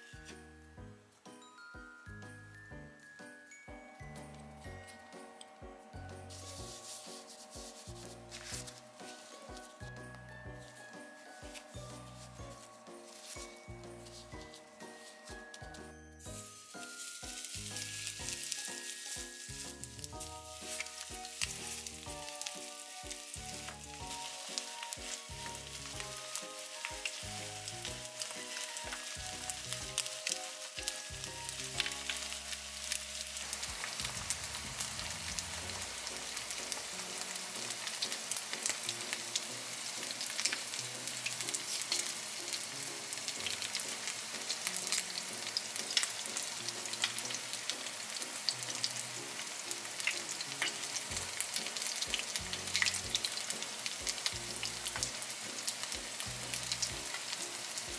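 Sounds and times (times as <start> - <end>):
light background music: 0.0 - 57.9
oil sizzling with crackling pops: 11.0 - 57.9.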